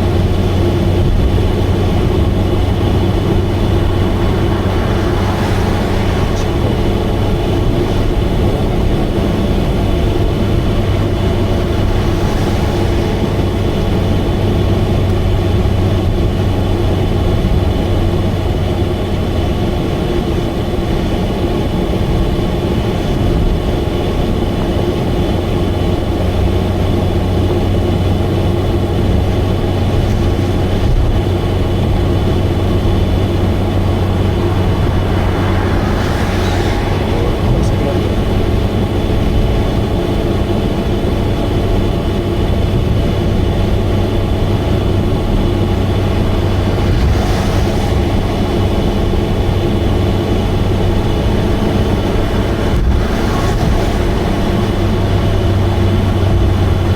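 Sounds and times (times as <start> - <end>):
car engine and exhaust droning: 0.0 - 56.9
tyre and road noise: 0.0 - 56.9.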